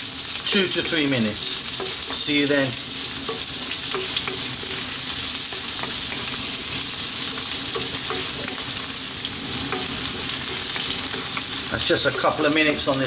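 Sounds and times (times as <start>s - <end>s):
vegetables sizzling in hot oil: 0.0s - 13.0s
spatula scraping and tapping wok: 0.7s - 12.7s.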